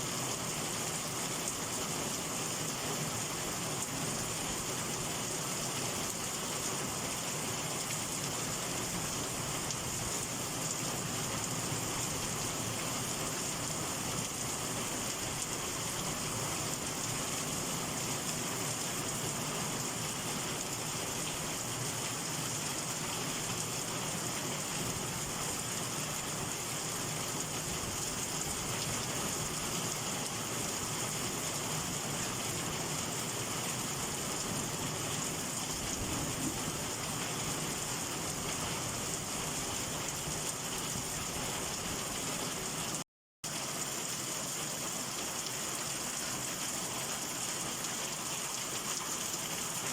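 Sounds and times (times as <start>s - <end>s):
heavy rain falling: 0.2s - 49.9s.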